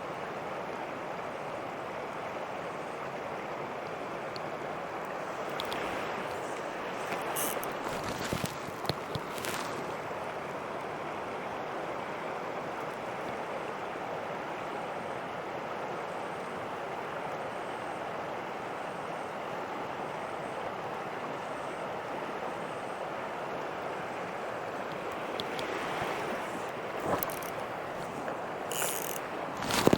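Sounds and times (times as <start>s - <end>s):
mountain stream rushing over rocks: 0.0s - 29.9s.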